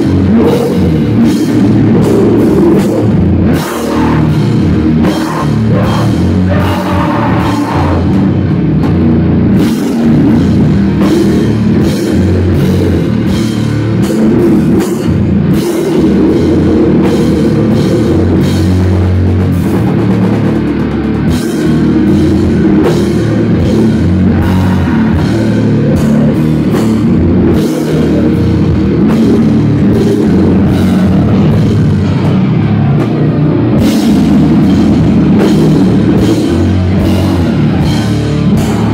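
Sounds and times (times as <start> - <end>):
drum kit hits: 0.0 - 38.9
electric guitars: 0.0 - 38.9.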